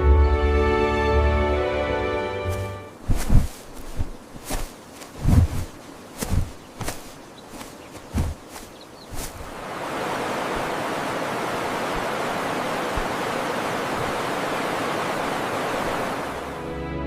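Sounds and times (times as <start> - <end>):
rushing water: 2.4 - 16.7.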